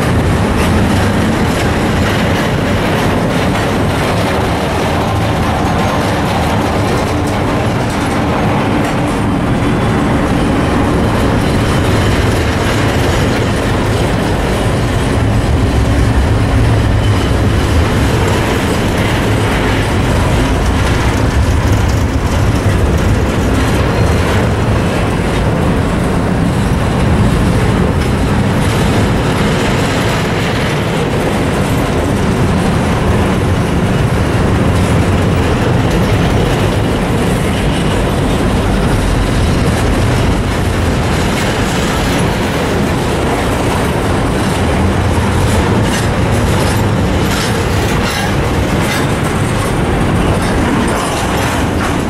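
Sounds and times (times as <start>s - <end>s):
diesel locomotive drone: 0.0s - 52.0s
train cars rolling on rails: 0.0s - 52.0s.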